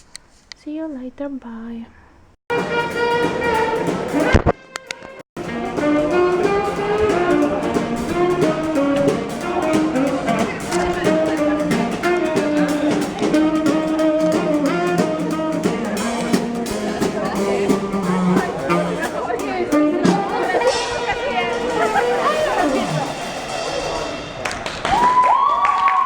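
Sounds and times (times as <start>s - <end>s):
background music with beat: 2.5s - 4.4s, 5.4s - 25.5s.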